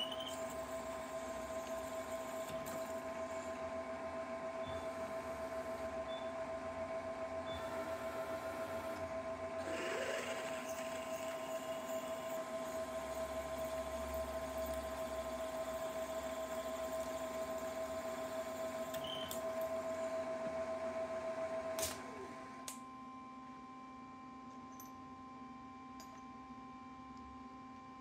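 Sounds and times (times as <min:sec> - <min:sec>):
drilling machine spindle whine: 0:00.0 - 0:22.6.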